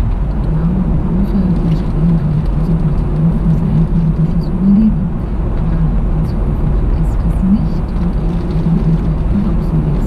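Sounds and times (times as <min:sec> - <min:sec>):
car engine and tyre rumble: 0:00.0 - 0:10.0
wavering hum: 0:00.0 - 0:10.0.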